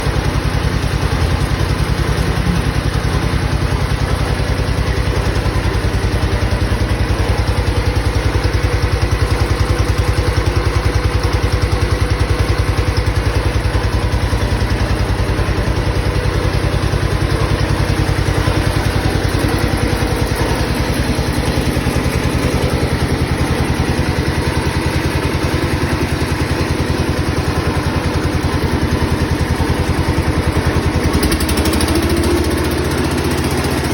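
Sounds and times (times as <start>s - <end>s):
tractor engine running steadily: 0.0s - 33.9s.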